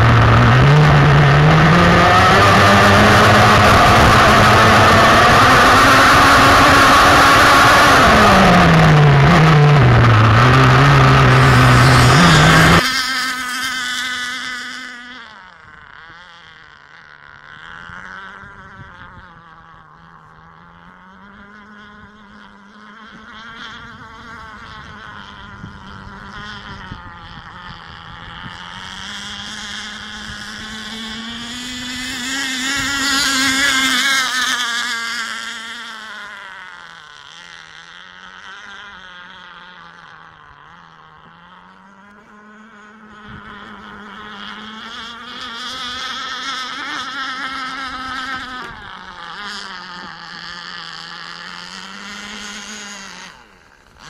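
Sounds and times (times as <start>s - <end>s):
model boat engine whining: 0.0s - 54.0s.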